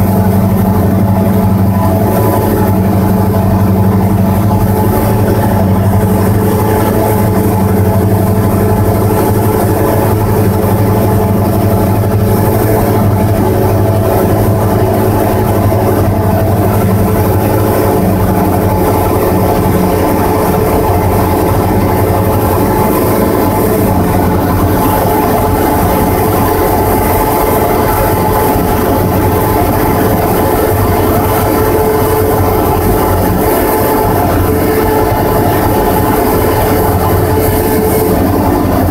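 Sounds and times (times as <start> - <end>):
plane engine and propeller drone: 0.0 - 38.9.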